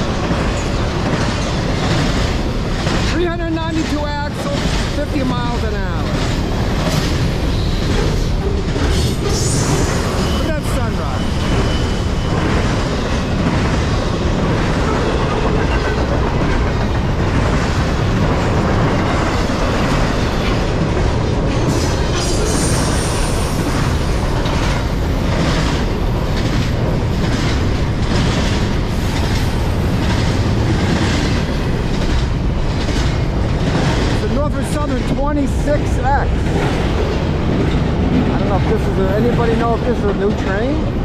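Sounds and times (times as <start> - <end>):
clickety-clack over rail joints: 0.0 - 41.0
freight train wheels rumbling: 0.0 - 41.0.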